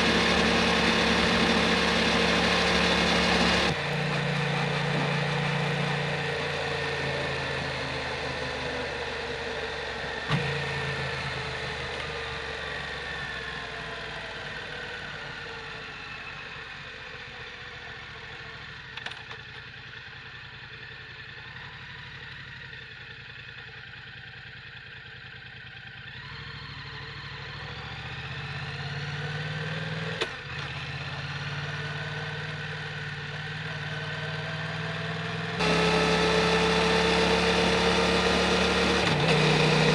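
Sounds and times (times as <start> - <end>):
motorcycle engine revving: 0.0 - 19.6, 20.6 - 39.9.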